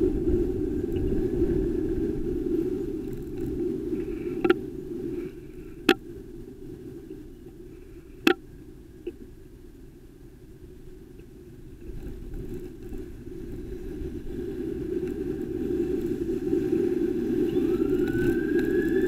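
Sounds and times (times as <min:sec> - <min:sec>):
wind and road rumble: 0:00.0 - 0:19.0.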